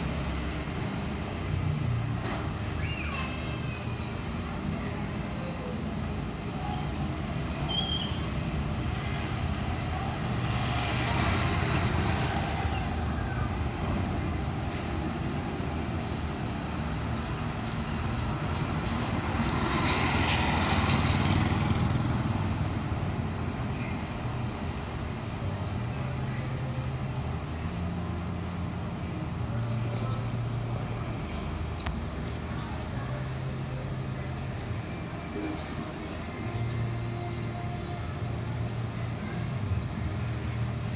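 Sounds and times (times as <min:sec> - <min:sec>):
road traffic rumble: 0:00.0 - 0:40.9
vehicles passing: 0:00.0 - 0:40.9.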